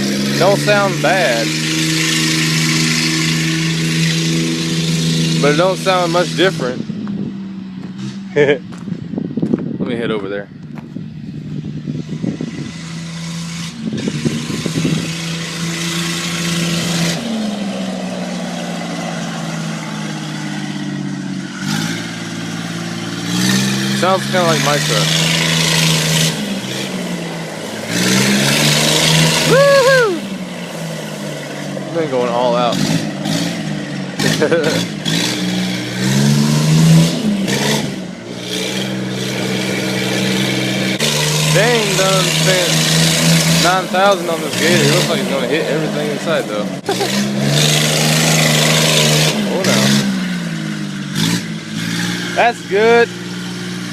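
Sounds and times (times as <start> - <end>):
unmuffled utility vehicle engine: 0.0 - 53.9.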